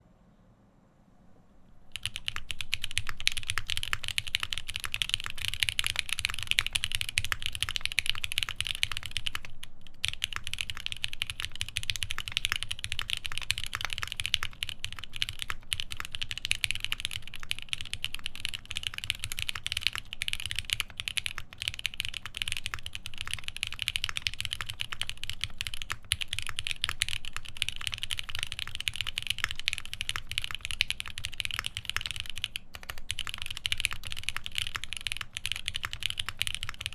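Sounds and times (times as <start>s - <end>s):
fast typing on mechanical keyboard: 1.9s - 36.9s.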